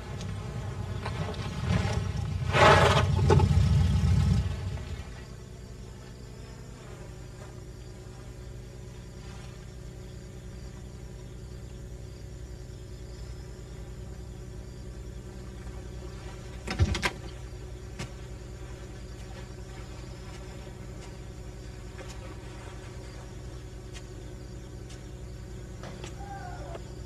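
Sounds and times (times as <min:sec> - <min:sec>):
low buzzing hum: 0:00.0 - 0:27.0.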